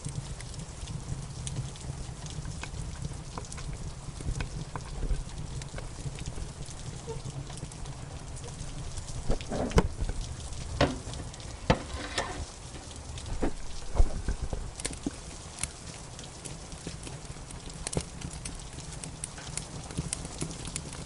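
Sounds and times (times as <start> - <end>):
rain pattering: 0.0 - 21.0
wood fire crackling and popping: 0.0 - 21.0.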